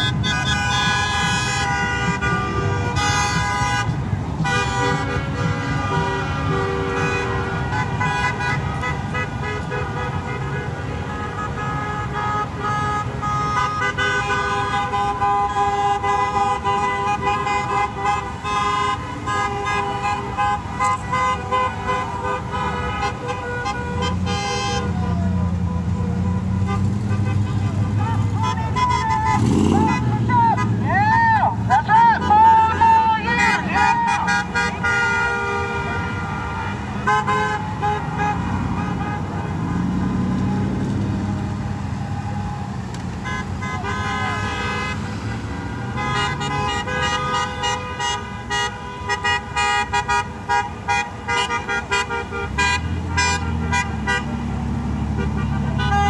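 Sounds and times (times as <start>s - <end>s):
loud engine rumble: 0.0s - 56.0s
traffic rumble: 0.0s - 56.0s
vehicle horns honking: 0.0s - 56.0s.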